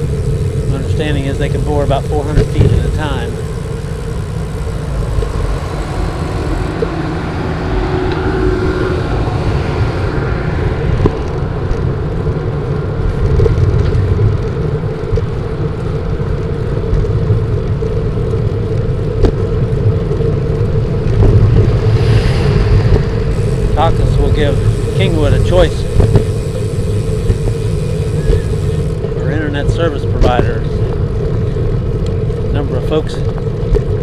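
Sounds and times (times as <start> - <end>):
wind buffeting microphone: 0.0 - 32.6
steady hum: 0.0 - 32.8.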